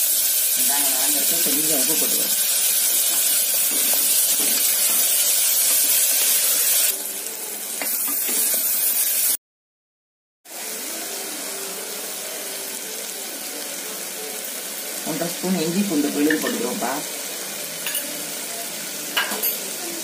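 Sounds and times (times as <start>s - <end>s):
onions sizzling in oil: 0.0s - 9.4s, 10.5s - 20.0s.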